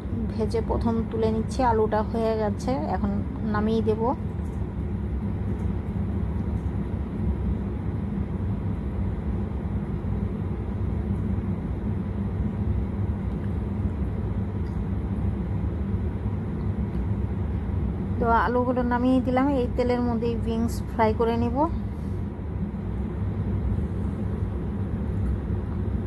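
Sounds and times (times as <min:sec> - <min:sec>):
low rumble with faint hum: 0:00.0 - 0:26.0.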